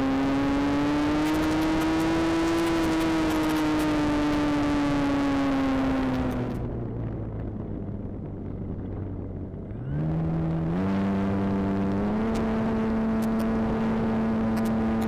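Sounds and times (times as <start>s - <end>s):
electric motor and propeller whine: 0.0s - 7.4s, 8.5s - 15.0s.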